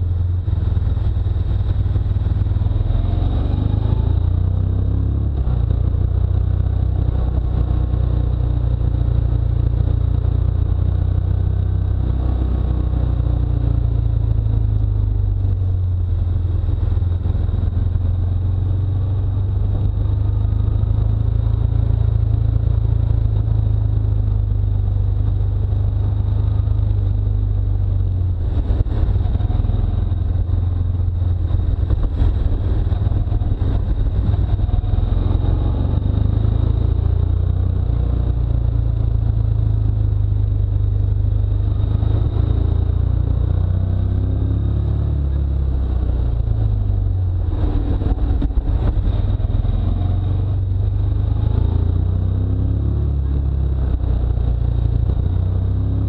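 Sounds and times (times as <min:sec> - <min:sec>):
motorcycle engine revving: 0:00.0 - 0:56.0
wind rumble on microphone: 0:00.0 - 0:56.0.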